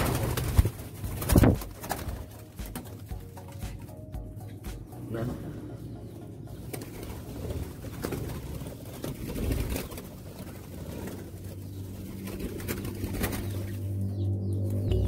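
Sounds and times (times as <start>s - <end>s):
doves cooing: 0.0s - 15.0s.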